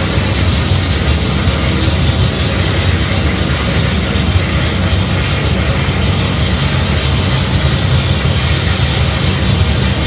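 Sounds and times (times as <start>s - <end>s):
amplified noise rumble and hiss: 0.0s - 10.0s.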